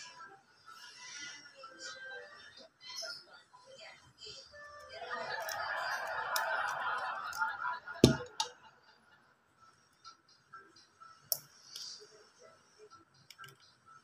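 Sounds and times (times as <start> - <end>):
music and voices: 0.0 - 14.0.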